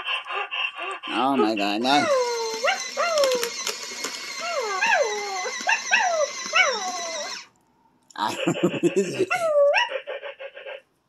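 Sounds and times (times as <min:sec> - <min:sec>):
toy puppy yips and whimpers: 0:00.0 - 0:07.5, 0:09.2 - 0:10.8.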